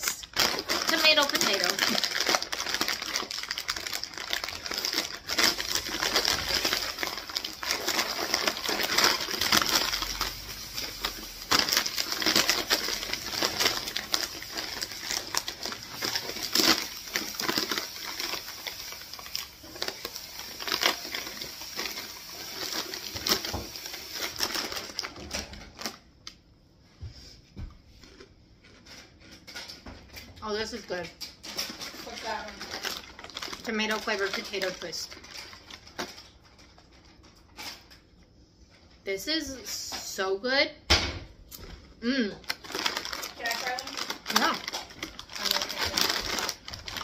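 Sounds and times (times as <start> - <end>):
plastic snack bag crinkling: 0.0 - 26.4, 28.0 - 29.8, 30.4 - 38.1, 41.5 - 47.0.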